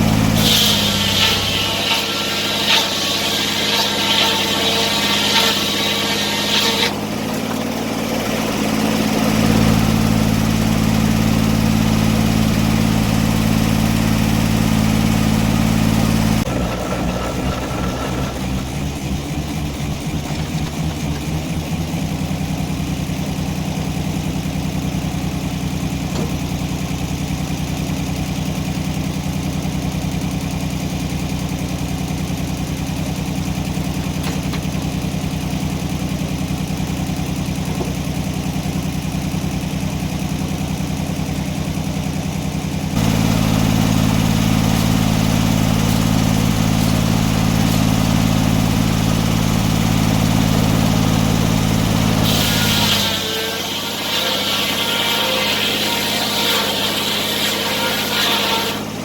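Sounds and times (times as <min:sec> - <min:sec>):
engine running steadily: 0:00.0 - 0:55.2.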